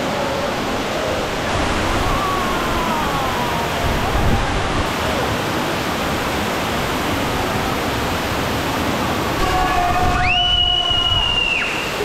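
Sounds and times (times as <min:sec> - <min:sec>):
waterfall crashing into pool: 0:00.0 - 0:12.0.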